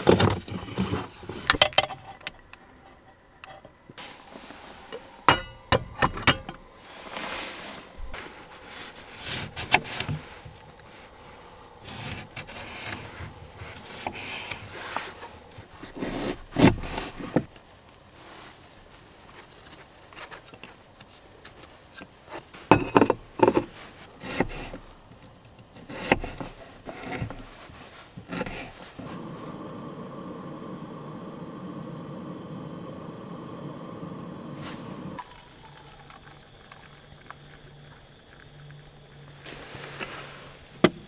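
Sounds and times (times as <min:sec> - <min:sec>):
kettle hissing: 0:00.0 - 0:17.6, 0:21.9 - 0:41.0.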